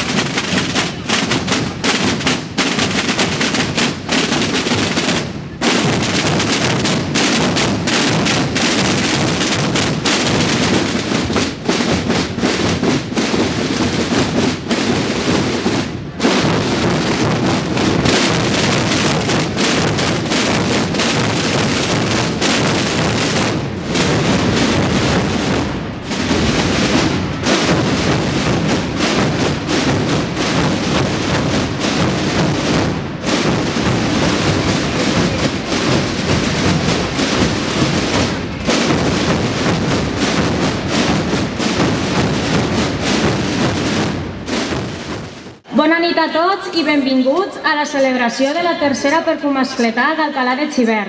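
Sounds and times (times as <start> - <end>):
massed drums rolling: 0.0 - 45.7.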